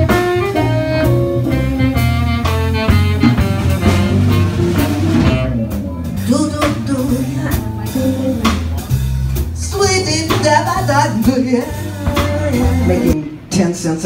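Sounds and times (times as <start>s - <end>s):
held melody notes: 0.0s - 13.4s
drum kit with cymbal hits: 0.0s - 13.6s
walking bass: 0.0s - 14.0s.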